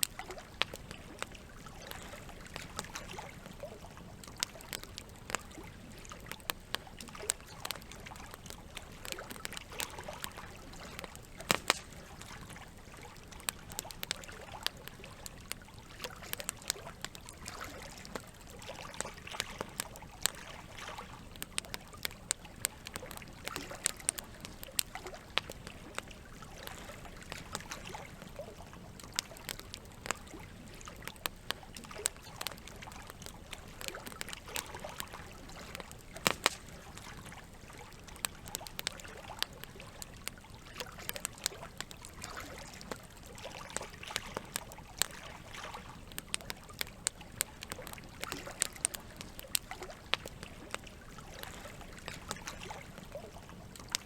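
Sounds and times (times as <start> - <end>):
campfire crackling and popping: 0.0 - 54.0
water trickling and lapping: 0.0 - 54.0.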